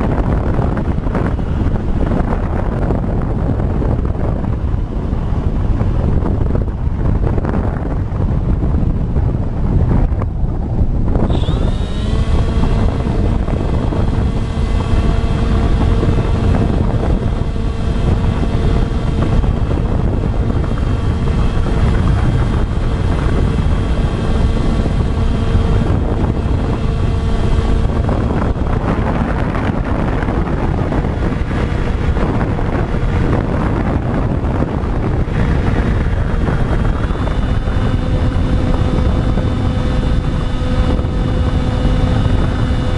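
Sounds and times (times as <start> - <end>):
electric motors and propellers whine: 0.0 - 42.9
wind rumble on microphone: 0.0 - 42.9.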